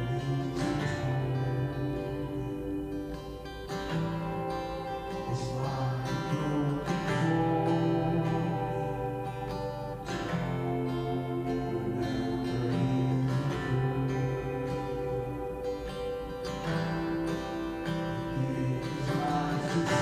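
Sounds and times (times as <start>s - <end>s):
sustained instrumental chords: 0.0s - 20.0s.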